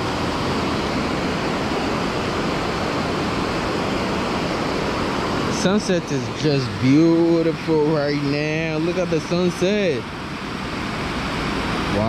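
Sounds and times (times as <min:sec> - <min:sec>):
water rushing over a dam: 0:00.0 - 0:12.0.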